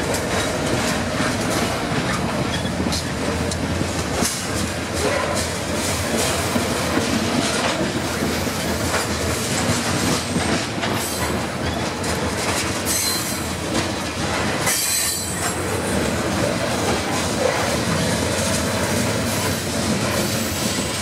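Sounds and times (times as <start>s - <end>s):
freight train wheels clattering: 0.0s - 21.0s.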